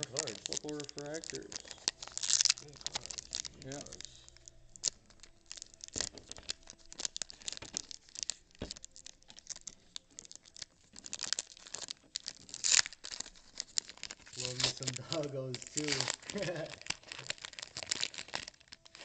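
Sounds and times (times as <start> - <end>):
cards being handled: 0.0 - 17.4
foil pack crinkling and tearing: 0.0 - 19.0.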